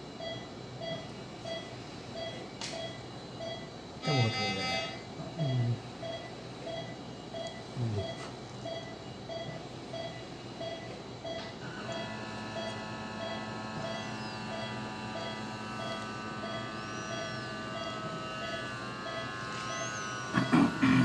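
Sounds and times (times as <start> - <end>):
patient monitor beeping: 0.2 - 21.0.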